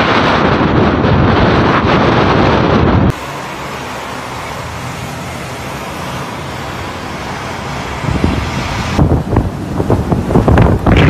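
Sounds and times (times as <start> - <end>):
strong wind rushing: 0.0 - 11.0
wind buffeting microphone: 0.0 - 11.0.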